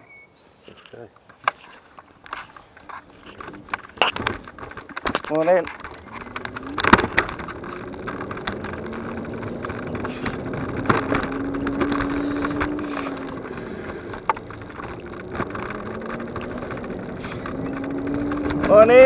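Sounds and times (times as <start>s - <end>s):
road and wind noise: 0.0s - 19.0s
electric scooter motor whining: 2.2s - 19.0s
scooter knocks and rattles: 2.3s - 19.0s.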